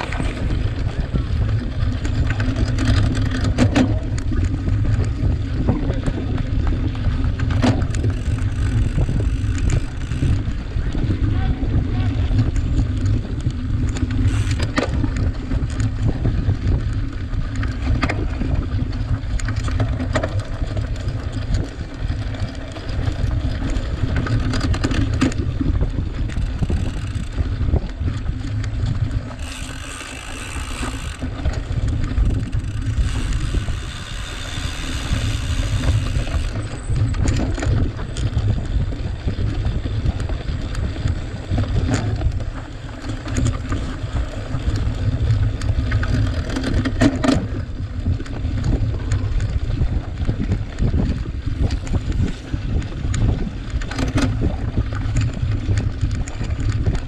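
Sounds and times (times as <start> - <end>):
sharp clicks and knocks: 0.0 - 11.0, 12.4 - 38.5, 40.1 - 49.5
bike rumbling over rough ground: 0.0 - 57.0
wind buffeting microphone: 0.0 - 57.0.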